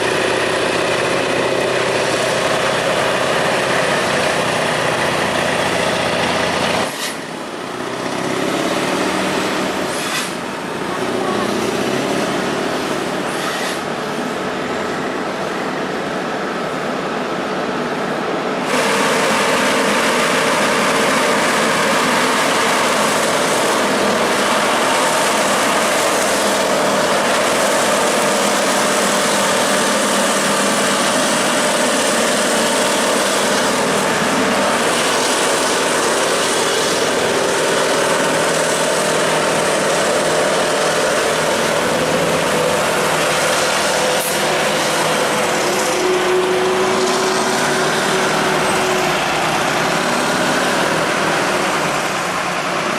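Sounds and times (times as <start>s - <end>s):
truck engine under load: 0.0s - 52.9s.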